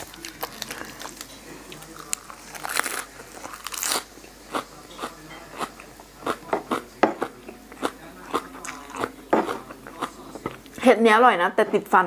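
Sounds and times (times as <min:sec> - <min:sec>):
crunchy wet chewing: 0:00.0 - 0:10.8.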